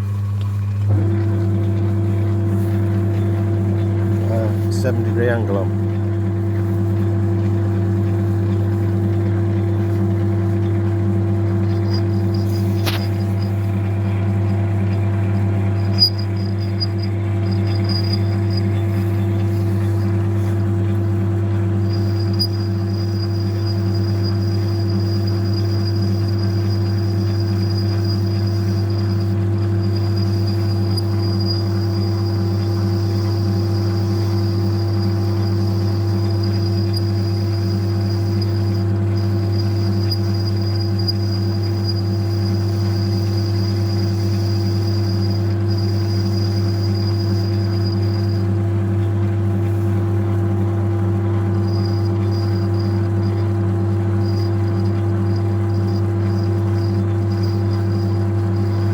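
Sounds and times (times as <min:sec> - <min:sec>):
thin high whine: 0:00.0 - 0:48.6, 0:51.3 - 0:58.9
lathe motor hum: 0:00.0 - 0:58.9.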